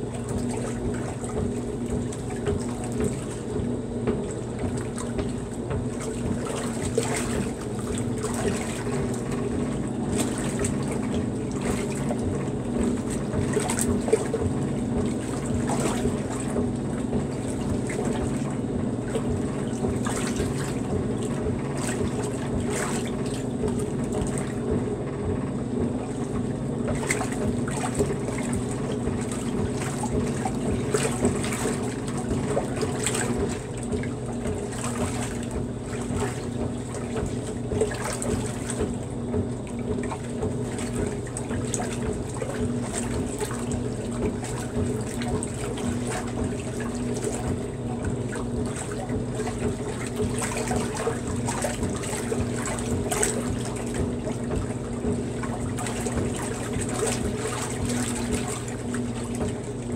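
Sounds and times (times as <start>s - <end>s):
washer mechanical hum: 0.0s - 59.9s
water sloshing in tub: 0.0s - 59.9s.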